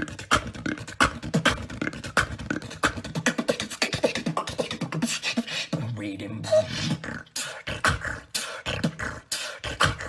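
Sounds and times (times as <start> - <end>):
beatboxing: 0.0 - 10.0.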